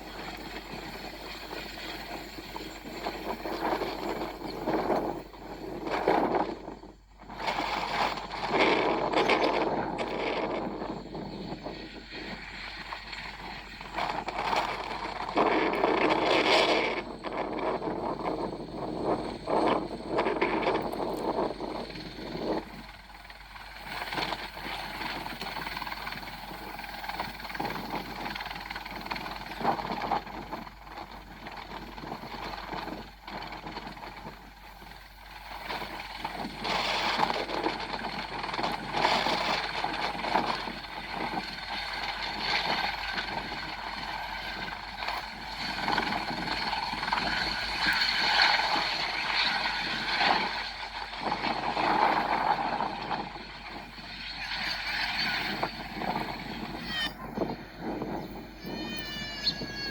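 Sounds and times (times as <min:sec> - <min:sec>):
helicopter engine and rotor: 0:00.0 - 0:59.9
wind gusting over microphone: 0:00.0 - 0:59.9.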